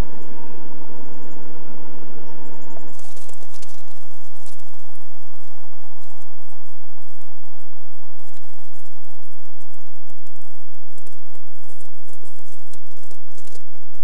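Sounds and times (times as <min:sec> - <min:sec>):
constant hiss: 0:00.0 - 0:14.0
footsteps crunching in snow: 0:02.8 - 0:14.0.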